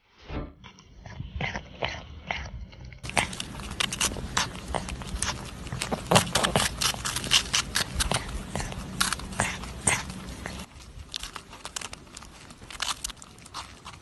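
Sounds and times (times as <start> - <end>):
marmot crunching food: 1.1 - 14.0.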